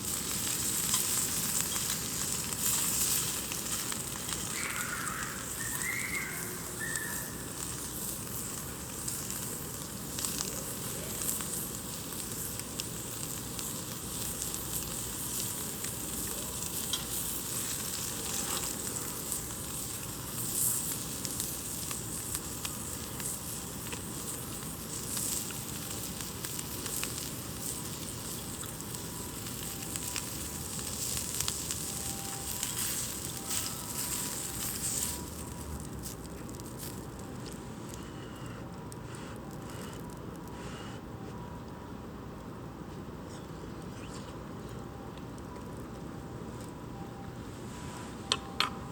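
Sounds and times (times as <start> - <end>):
campfire hissing and crackling: 0.0 - 41.1, 42.7 - 48.9.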